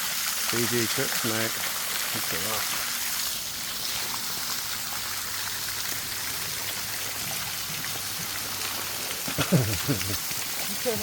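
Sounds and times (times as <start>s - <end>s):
water spattering: 0.0s - 11.0s.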